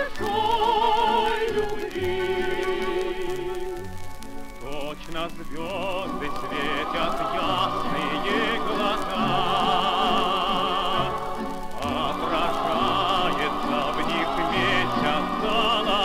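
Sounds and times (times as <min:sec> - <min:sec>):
choir and orchestra: 0:00.0 - 0:03.9, 0:04.6 - 0:16.0
voices singing with vibrato: 0:00.0 - 0:16.0.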